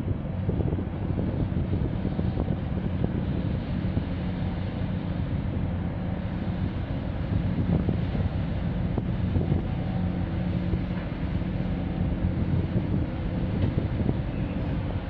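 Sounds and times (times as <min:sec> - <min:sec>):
ship engines droning: 0:00.0 - 0:15.0
wind noise on microphone: 0:00.0 - 0:15.0.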